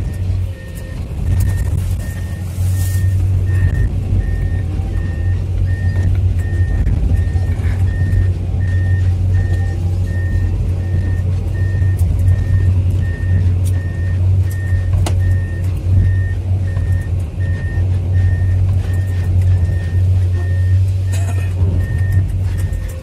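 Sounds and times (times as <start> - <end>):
excavator diesel engine droning: 0.0 - 23.0
travel alarm beeping: 0.0 - 23.0.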